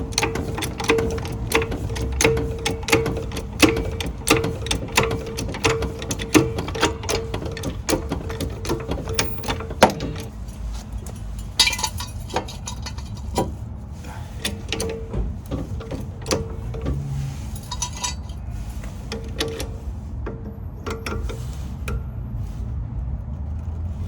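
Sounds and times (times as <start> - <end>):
metal tools clinking: 0.0 - 22.0.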